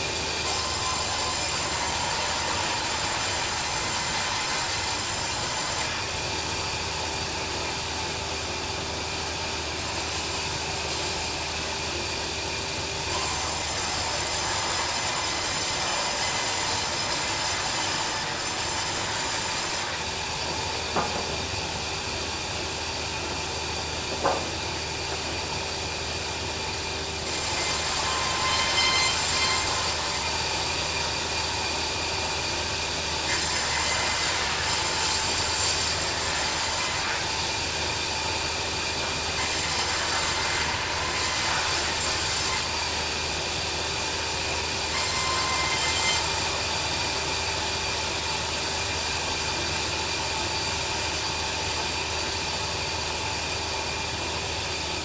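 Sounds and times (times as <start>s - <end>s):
bandsaw cutting a log: 0.0s - 54.7s.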